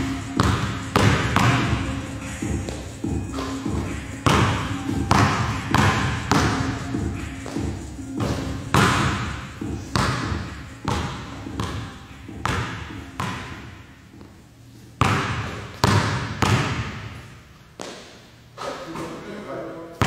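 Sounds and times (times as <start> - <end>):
basketball bouncing on gym floor: 0.0 - 14.4, 15.0 - 18.2.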